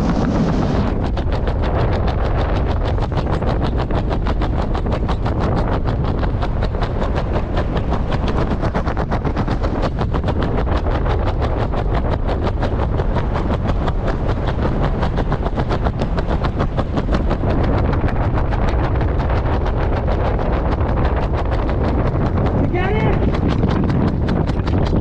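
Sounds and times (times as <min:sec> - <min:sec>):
parachute fluttering: 0:00.0 - 0:25.0
wind rushing past microphone: 0:00.0 - 0:25.0.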